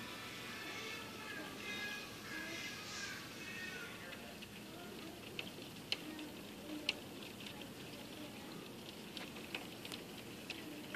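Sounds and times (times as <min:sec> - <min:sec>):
steady rain: 0:00.0 - 0:10.9
raindrops ticking sharply: 0:00.5 - 0:10.9.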